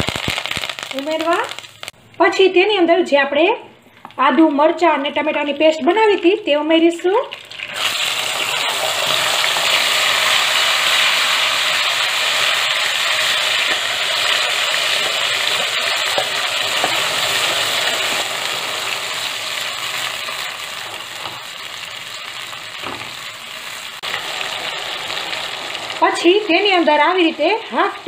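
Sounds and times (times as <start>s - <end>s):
paste sizzling in hot oil: 0.0s - 2.0s, 7.4s - 28.0s.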